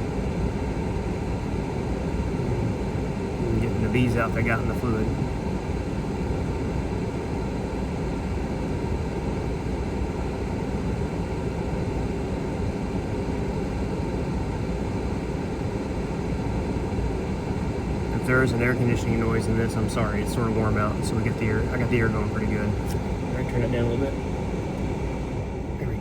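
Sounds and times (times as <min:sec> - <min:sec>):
air conditioning blower whooshing: 0:00.0 - 0:26.0.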